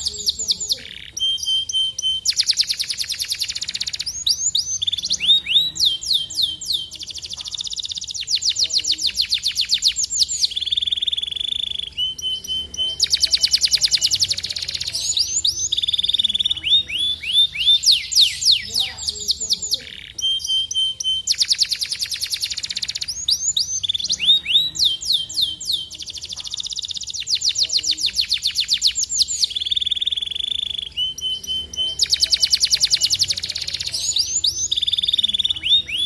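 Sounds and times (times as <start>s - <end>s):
canaries singing trills: 0.0s - 36.0s.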